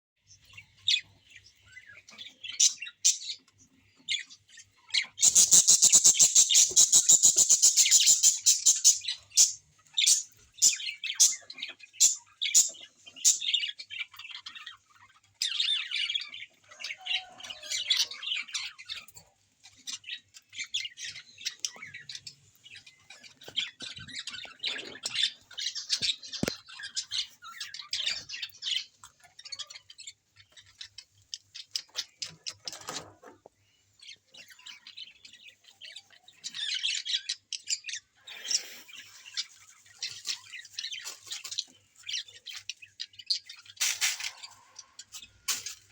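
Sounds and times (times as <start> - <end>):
birds chirping and squawking: 0.2 - 45.9.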